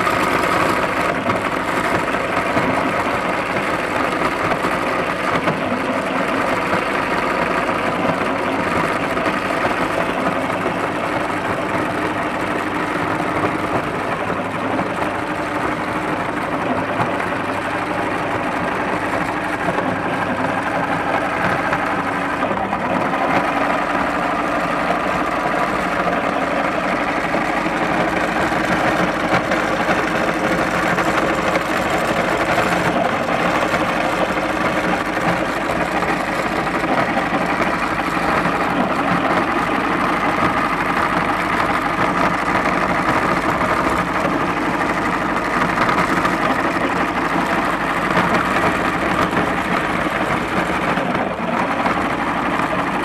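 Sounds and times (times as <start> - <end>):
electric meat grinder running: 0.0 - 53.0.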